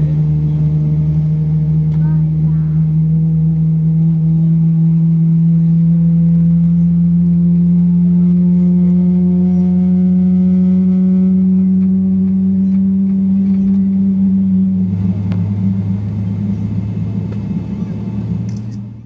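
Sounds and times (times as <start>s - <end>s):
jet engines humming inside cabin: 0.0s - 9.7s, 10.9s - 19.0s.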